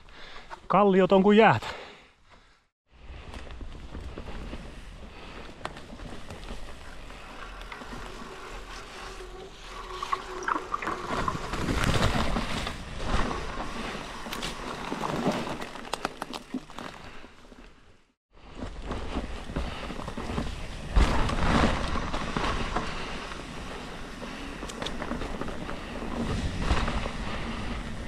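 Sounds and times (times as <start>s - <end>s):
bike tyres rolling on wet ground: 3.3s - 17.5s, 18.6s - 28.0s.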